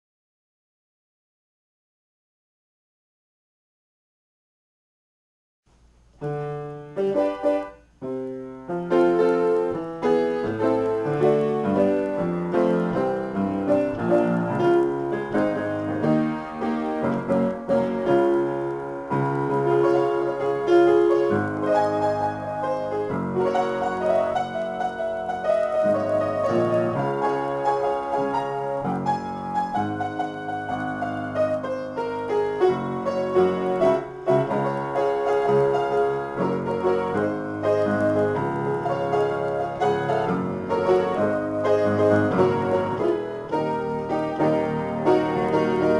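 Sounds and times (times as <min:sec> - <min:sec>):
piano playing: 0:06.1 - 0:45.9.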